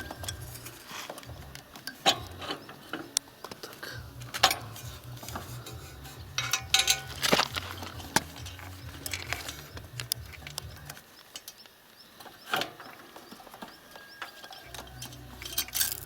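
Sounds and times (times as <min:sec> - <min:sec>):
metal tools clinking: 0:00.0 - 0:11.6, 0:12.5 - 0:16.0.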